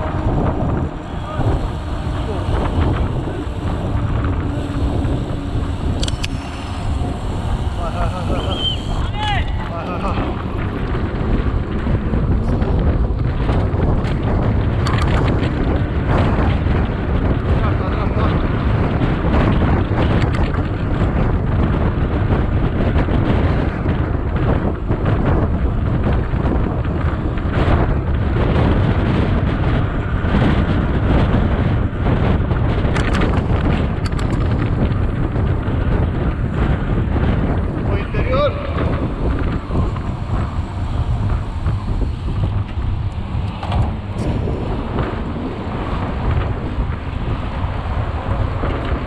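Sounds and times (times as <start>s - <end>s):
bike rolling on asphalt: 0.0s - 49.0s
wind buffeting microphone: 0.0s - 49.0s.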